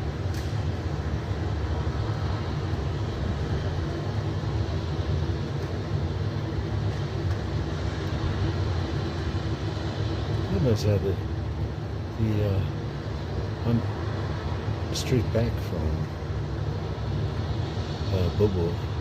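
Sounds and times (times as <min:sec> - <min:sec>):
air conditioning units droning: 0:00.0 - 0:19.0.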